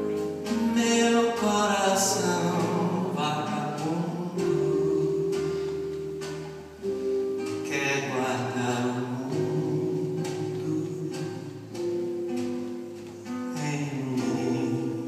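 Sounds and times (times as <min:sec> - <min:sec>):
person singing: 0:00.0 - 0:12.2, 0:13.1 - 0:15.0
acoustic guitar picking: 0:00.0 - 0:15.0
live band music: 0:00.0 - 0:15.0.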